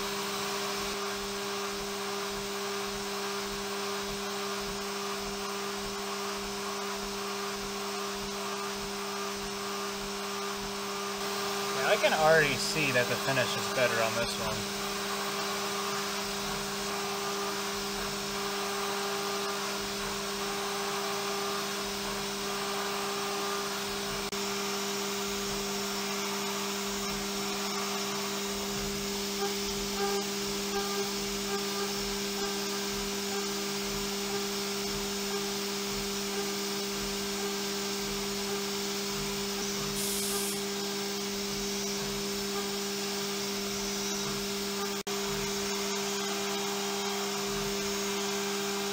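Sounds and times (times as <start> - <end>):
milling spindle whining: 2.5 - 24.2, 25.9 - 48.9.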